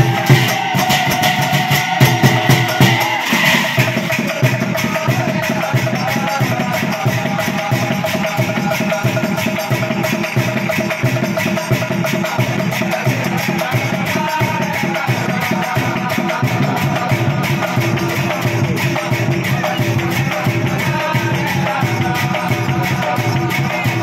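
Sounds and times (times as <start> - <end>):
cymbals clashing: 0.0 - 24.0
drums beating: 0.0 - 24.0
men singing: 0.0 - 24.0.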